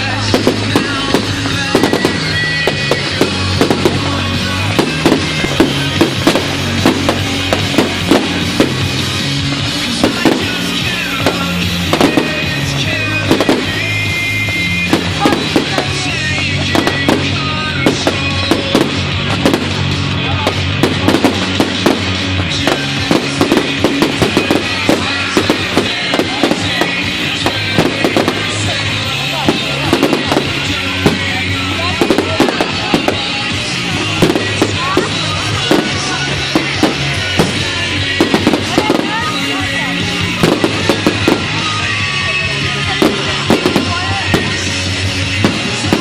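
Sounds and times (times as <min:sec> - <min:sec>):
fireworks bursting and crackling: 0:00.0 - 0:46.0
music with bass line: 0:00.0 - 0:46.0.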